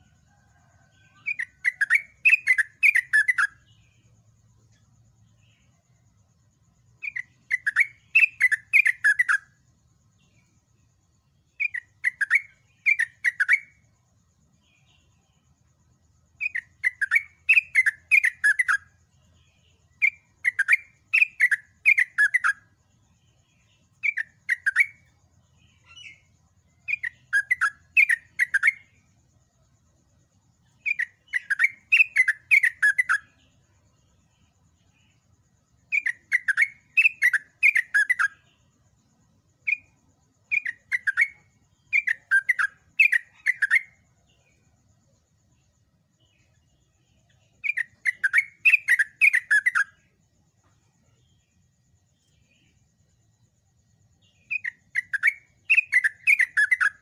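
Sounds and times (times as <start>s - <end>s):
bird singing chirping phrases: 0.0s - 57.0s.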